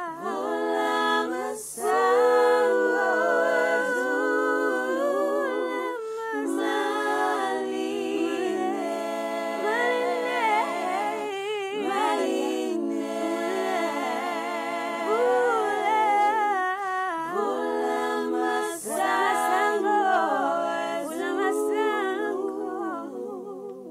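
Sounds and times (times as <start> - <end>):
a cappella harmony singing: 0.0 - 23.9.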